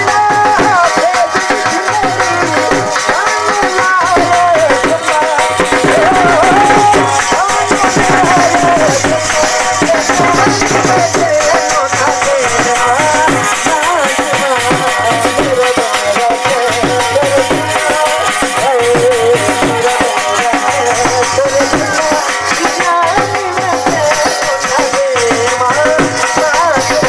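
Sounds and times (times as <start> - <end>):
dhol drum beating: 0.0 - 27.0
ornamented folk melody: 0.0 - 27.0.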